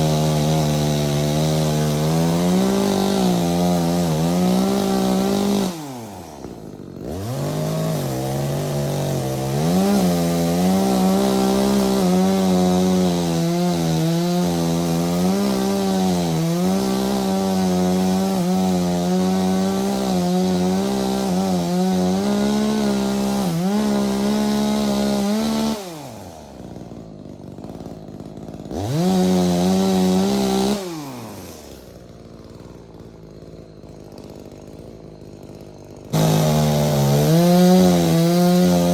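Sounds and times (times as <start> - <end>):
chainsaw cutting tree trunk: 0.0 - 38.9
chainsaw idling: 0.0 - 38.9.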